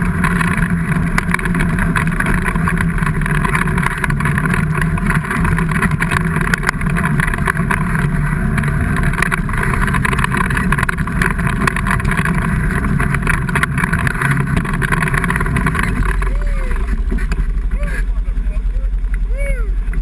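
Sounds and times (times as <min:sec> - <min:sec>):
clicks and knocks: 0:00.0 - 0:17.6
off-road vehicle engine running: 0:00.0 - 0:20.0.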